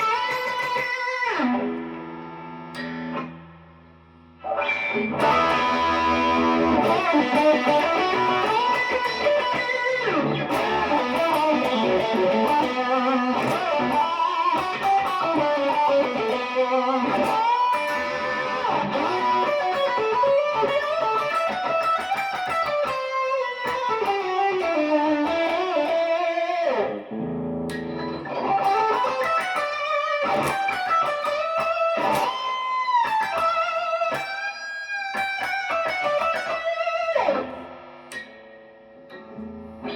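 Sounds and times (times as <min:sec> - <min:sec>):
electric guitar melody: 0:00.0 - 0:39.9.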